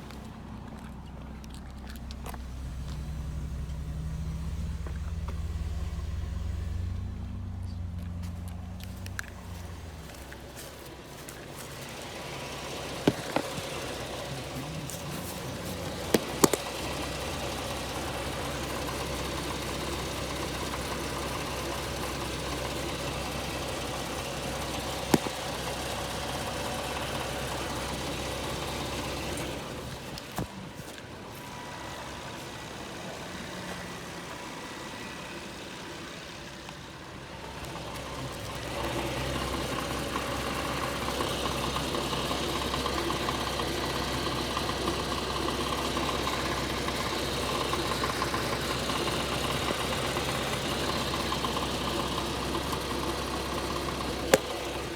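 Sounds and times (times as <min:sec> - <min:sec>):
car engine running: 0:00.0 - 0:54.9.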